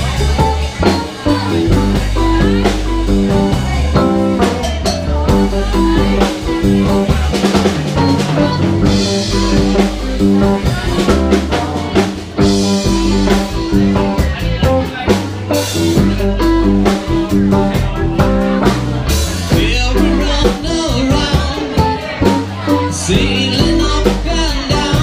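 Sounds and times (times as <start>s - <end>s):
drum kit: 0.0s - 25.0s
electric guitars: 0.0s - 25.0s
walking bass line: 0.0s - 25.0s.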